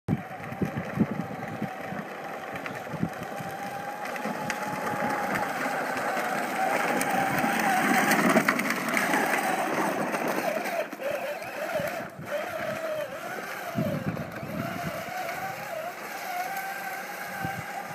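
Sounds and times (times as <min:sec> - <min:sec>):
wheels rolling over dirt: 0:00.1 - 0:17.9
electric motor whining: 0:00.2 - 0:17.9.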